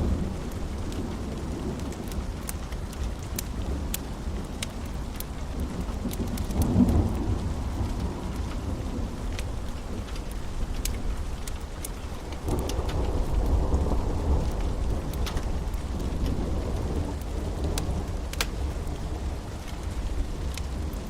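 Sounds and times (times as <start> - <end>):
low rumble of thunder: 0.0 - 21.0
sharp raindrops ticking: 0.0 - 21.0
steady rain: 0.0 - 21.0.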